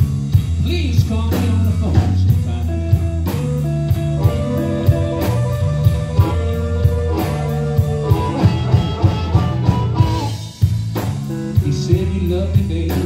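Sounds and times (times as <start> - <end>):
bass line: 0.0 - 13.0
blues guitar: 0.0 - 13.0
drum beat: 0.0 - 13.0.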